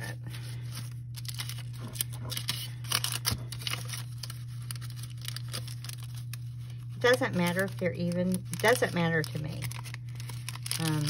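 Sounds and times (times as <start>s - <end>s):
paper sheets rustling: 0.0s - 11.0s.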